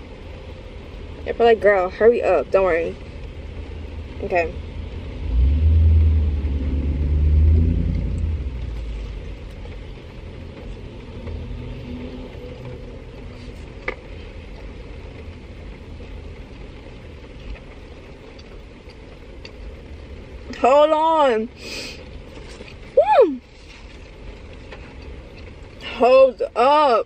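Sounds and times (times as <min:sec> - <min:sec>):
car engine rumble from inside: 0:00.0 - 0:27.0.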